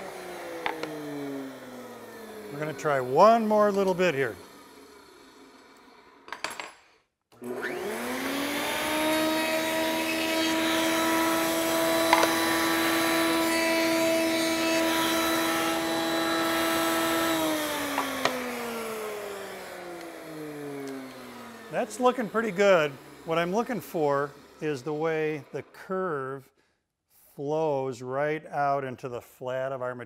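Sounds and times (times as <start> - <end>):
router high whine: 0.0 - 6.2, 7.4 - 25.8.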